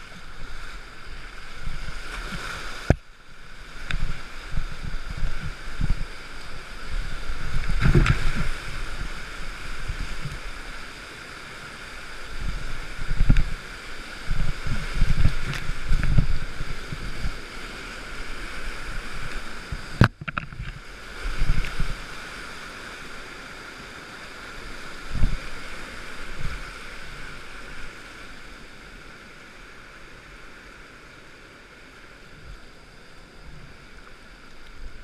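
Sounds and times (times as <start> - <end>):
rushing whitewater: 0.0 - 35.0.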